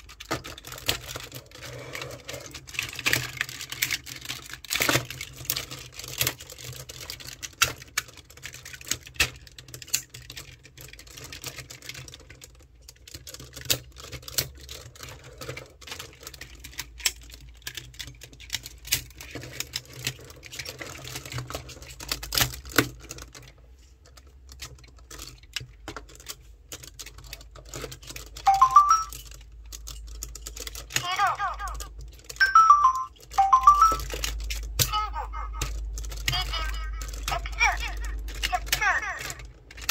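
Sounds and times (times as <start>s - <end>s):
plastic toy parts clicking and clattering: 0.0s - 39.9s.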